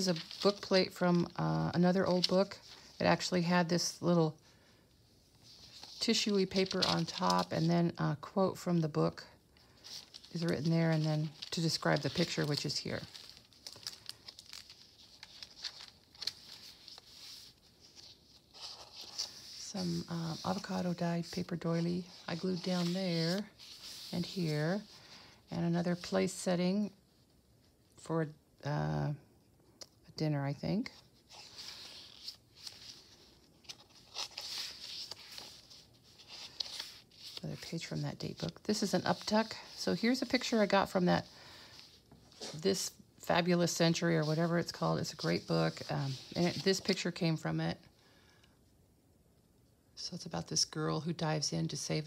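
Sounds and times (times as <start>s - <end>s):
faint paper rustling: 0.0s - 28.1s, 30.7s - 48.5s.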